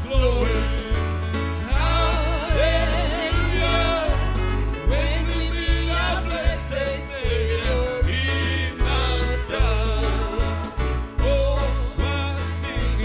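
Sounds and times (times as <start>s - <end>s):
bass line: 0.0s - 13.0s
person singing with vibrato: 0.0s - 13.0s.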